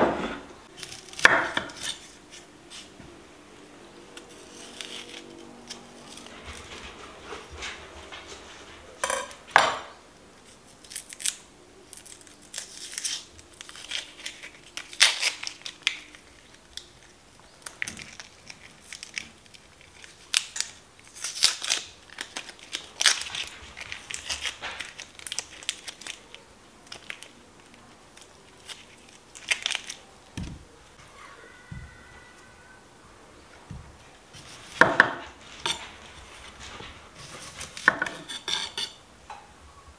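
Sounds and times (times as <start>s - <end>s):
food crinkling and crunching: 0.6s - 3.0s, 3.6s - 32.7s, 33.4s - 39.0s.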